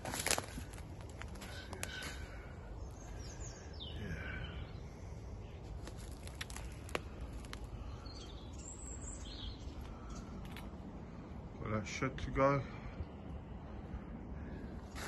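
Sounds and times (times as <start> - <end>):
birds chirping: 0.0 - 15.0
low outdoor background hum: 0.0 - 15.0.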